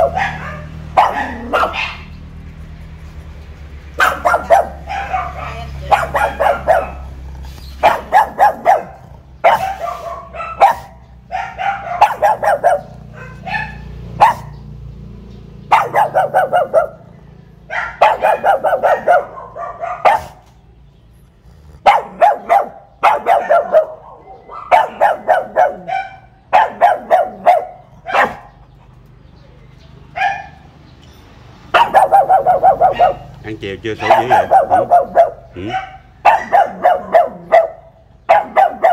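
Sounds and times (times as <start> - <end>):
dog barking: 0.0 - 2.2, 4.0 - 14.7, 15.6 - 20.5, 21.8 - 28.7, 30.1 - 30.7, 31.7 - 38.9.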